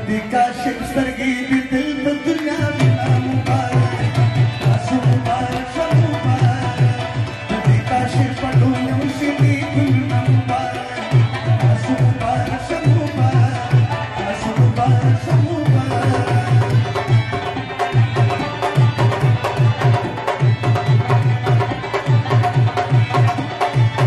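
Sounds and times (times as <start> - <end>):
hand-drum rhythm: 0.0 - 24.0
rubab melody: 0.0 - 24.0.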